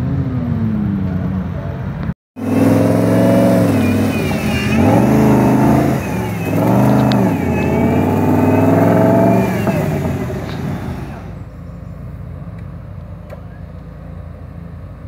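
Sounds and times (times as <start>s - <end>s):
off-road engine revving: 0.0s - 14.2s.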